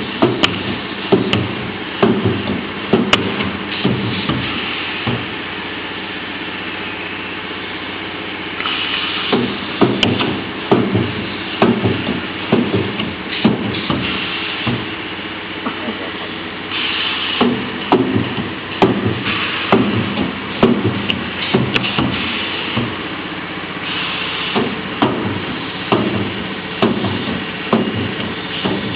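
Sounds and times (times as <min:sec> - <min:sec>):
welding hiss: 0:00.0 - 0:28.9
welding machine humming: 0:00.0 - 0:28.9.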